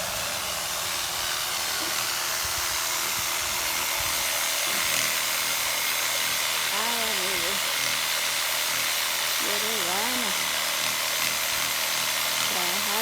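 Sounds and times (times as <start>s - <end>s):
chainsaw cutting branches: 0.0s - 13.0s.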